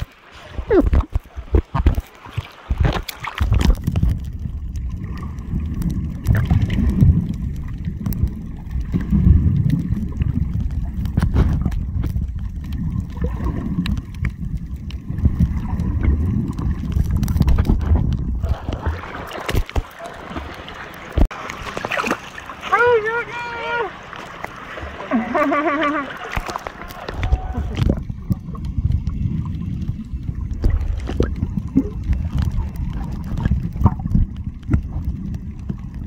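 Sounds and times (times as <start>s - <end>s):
muffled underwater rumble: 0.0s - 21.5s, 24.0s - 36.0s
water splashing against camera: 0.0s - 36.0s.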